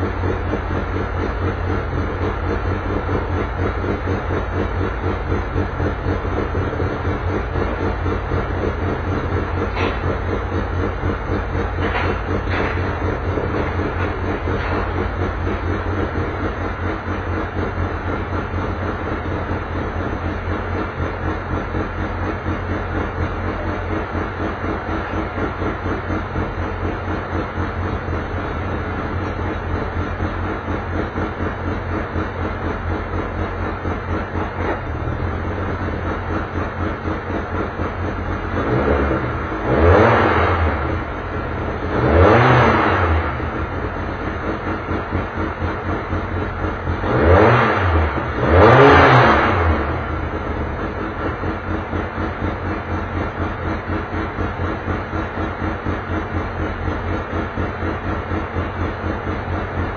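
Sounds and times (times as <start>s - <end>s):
race car engine idling and revving: 0.0s - 59.9s.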